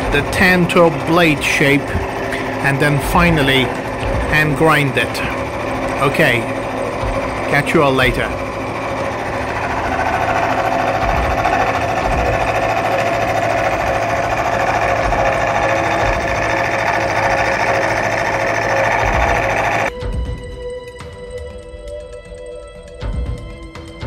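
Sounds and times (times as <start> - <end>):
milling machine cutting steel: 0.0 - 19.9.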